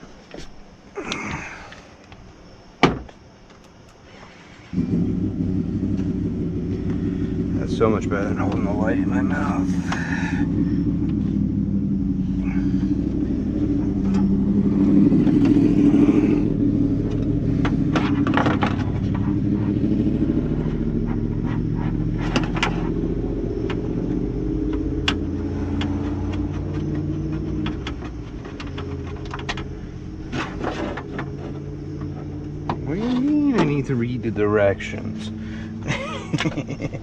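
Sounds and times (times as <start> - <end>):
low rumble: 4.7 - 37.0.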